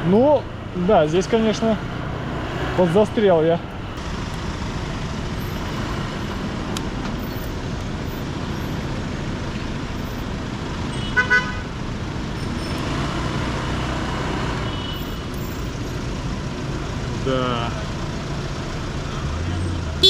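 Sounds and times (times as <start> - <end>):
congested road traffic: 0.0 - 20.0.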